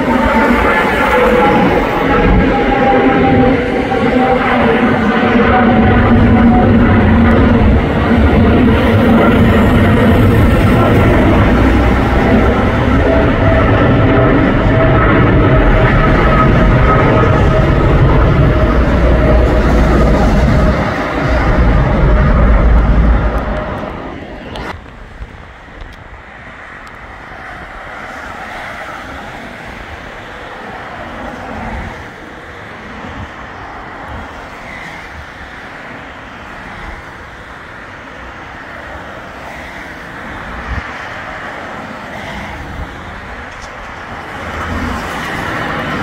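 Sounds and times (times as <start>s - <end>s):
airliner engine roar: 0.0s - 46.0s
jet taking off: 0.0s - 46.0s
road traffic noise: 0.0s - 46.0s
wind rumbling on microphone: 0.0s - 46.0s.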